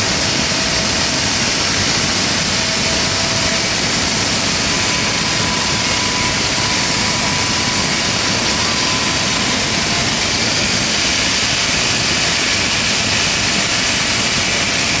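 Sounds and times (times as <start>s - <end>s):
concrete cutting machine hissing: 0.0s - 15.0s.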